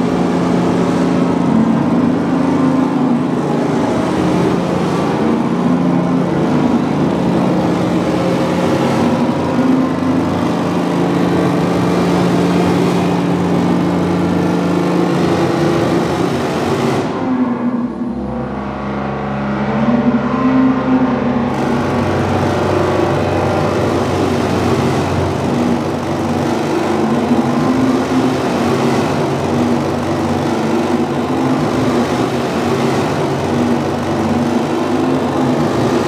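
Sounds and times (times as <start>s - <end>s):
dense wash of noise: 0.0s - 36.0s
low hum: 0.0s - 36.0s.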